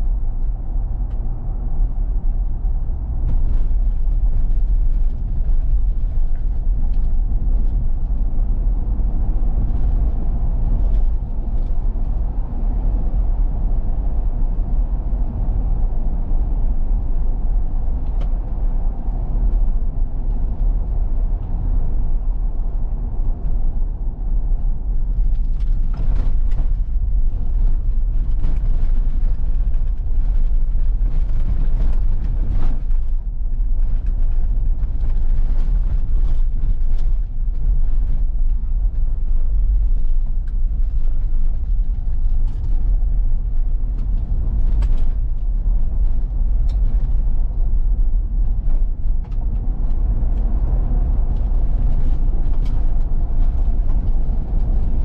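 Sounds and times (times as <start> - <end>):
low rumble of tyres and drivetrain: 0.0 - 55.0.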